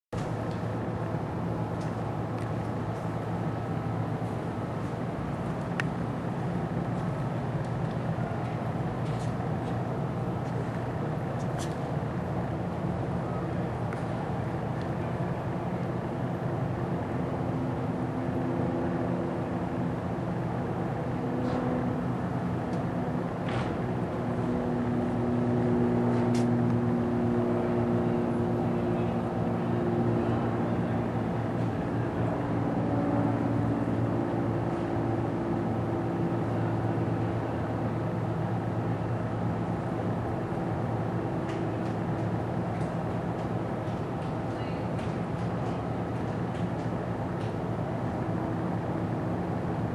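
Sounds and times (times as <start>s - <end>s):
low mechanical motor hum: 0.2s - 49.9s.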